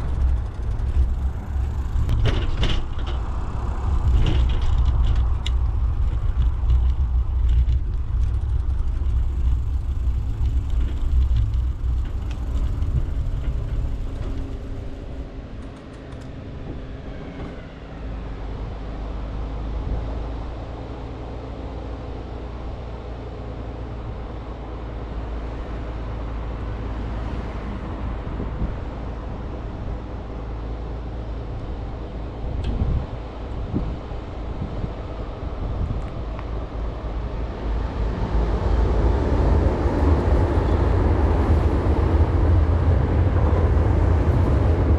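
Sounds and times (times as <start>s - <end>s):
steady traffic hum: 0.0s - 44.9s
wind and road rumble on microphone: 0.0s - 44.9s.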